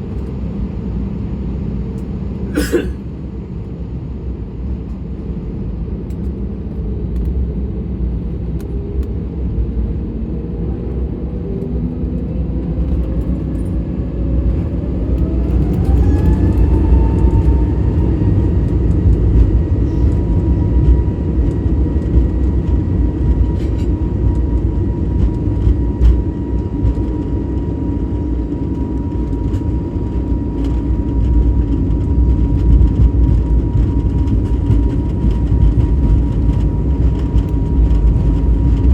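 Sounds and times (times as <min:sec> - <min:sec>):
loud rumble of takeoff roll: 0:00.0 - 0:38.9
jet engine whine rising: 0:05.4 - 0:38.9.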